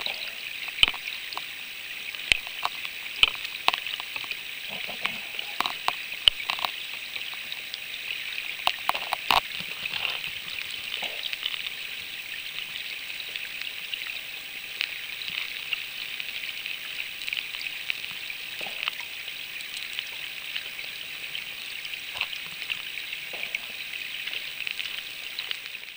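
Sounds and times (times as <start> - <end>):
river water heard underwater: 0.0 - 25.9
small crackles and clicks: 0.0 - 25.9.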